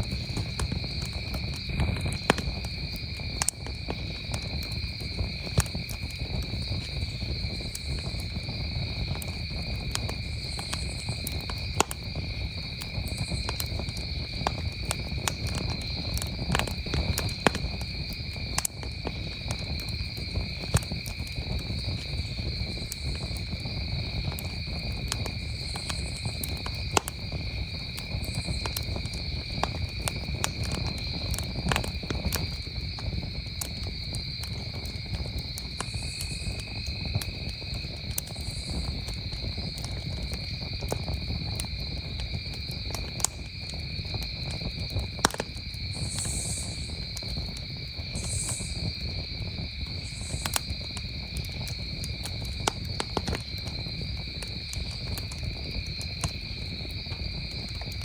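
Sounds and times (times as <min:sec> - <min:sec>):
campfire crackling and popping: 0:00.0 - 0:58.0
crickets trilling: 0:00.0 - 0:58.0.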